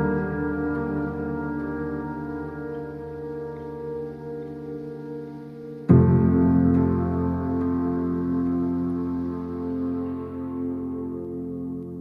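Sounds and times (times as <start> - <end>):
soft ambient chord: 0.0 - 12.0.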